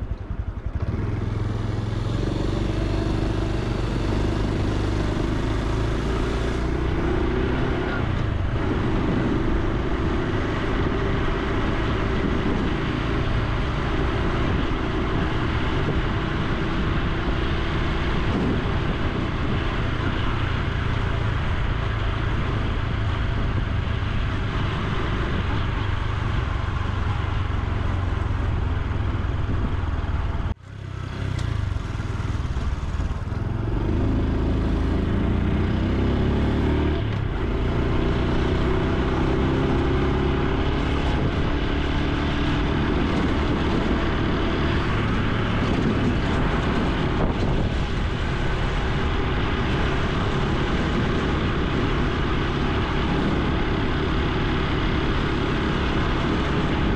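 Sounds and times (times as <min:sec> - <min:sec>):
motorcycle engine while riding: 0:00.0 - 0:56.9.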